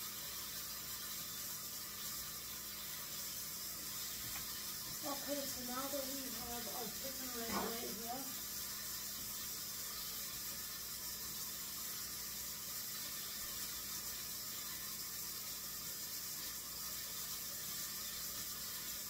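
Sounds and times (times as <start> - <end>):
kitchen tap running into sink: 0.0 - 19.0.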